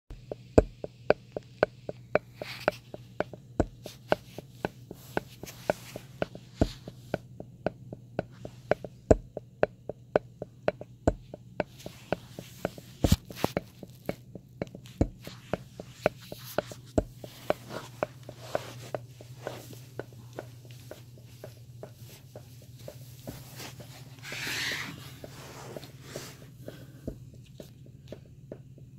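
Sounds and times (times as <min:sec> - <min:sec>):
low steady hum: 0:00.1 - 0:28.9.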